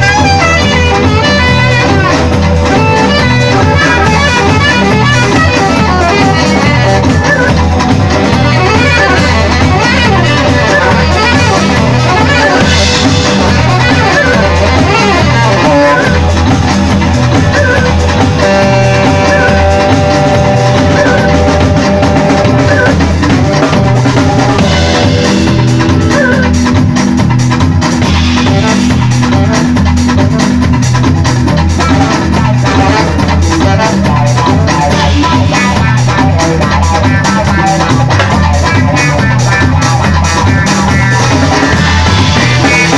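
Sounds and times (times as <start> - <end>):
drum kit: 0.0 - 42.9
guitar: 0.0 - 42.9
pulsing bass: 0.0 - 42.9.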